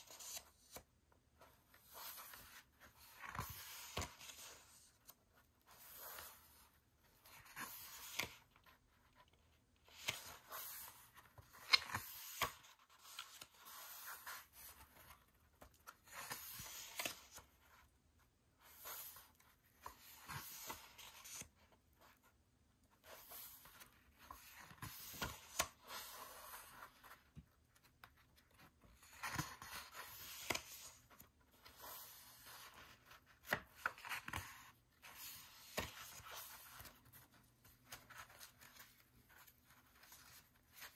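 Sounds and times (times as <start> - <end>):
pages turning rustles: 0.0 - 17.9, 18.6 - 22.3, 22.9 - 40.9.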